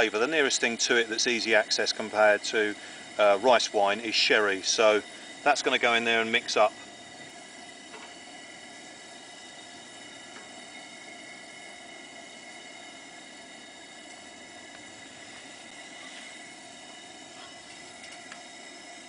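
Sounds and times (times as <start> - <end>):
camp stove burner hissing: 0.0 - 19.0.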